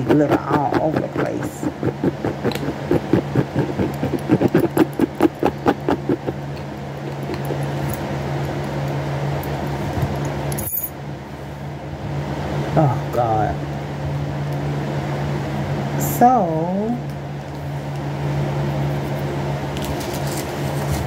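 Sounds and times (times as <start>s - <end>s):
room fan humming: 0.0s - 21.0s.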